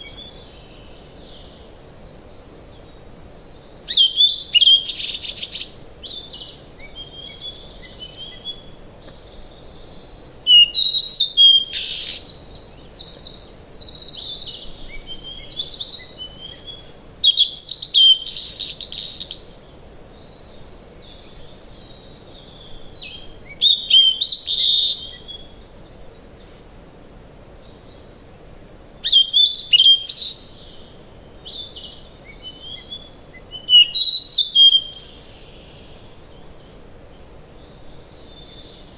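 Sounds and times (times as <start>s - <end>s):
faint steady hiss: 0.0s - 38.9s
songbirds singing and chirping: 0.0s - 38.9s.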